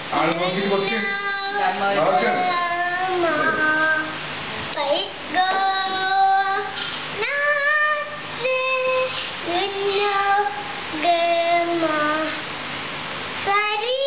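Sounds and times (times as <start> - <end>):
young child singing: 0.4 - 12.5, 13.4 - 14.0.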